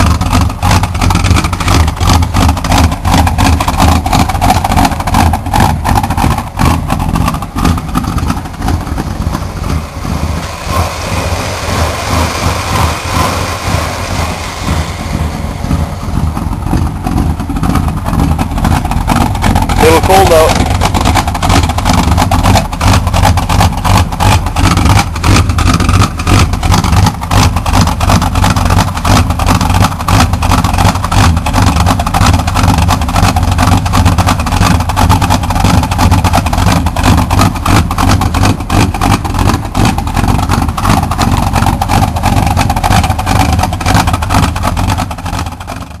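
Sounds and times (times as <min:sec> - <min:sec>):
car engine idling rough: 0:00.0 - 0:46.0.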